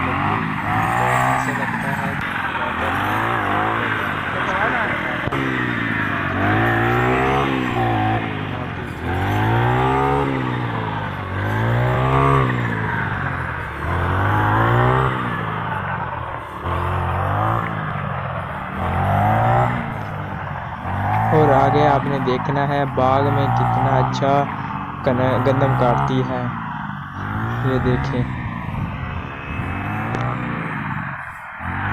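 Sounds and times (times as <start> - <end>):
brush cutter engine revving: 0.0 - 31.9.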